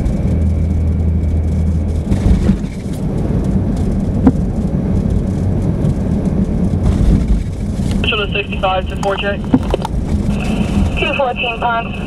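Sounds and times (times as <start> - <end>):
car road and engine rumble: 0.0 - 12.0
low hum: 0.0 - 12.0.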